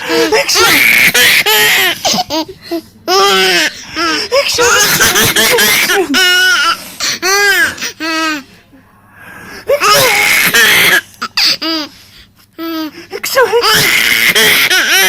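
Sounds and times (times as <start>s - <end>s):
baby laughing: 0.0s - 8.4s, 9.8s - 11.9s, 13.5s - 15.0s.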